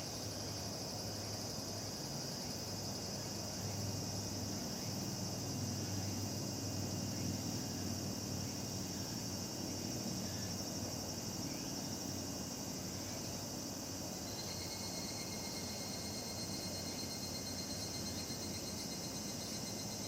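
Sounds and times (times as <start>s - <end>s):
cicadas singing: 0.0s - 20.0s.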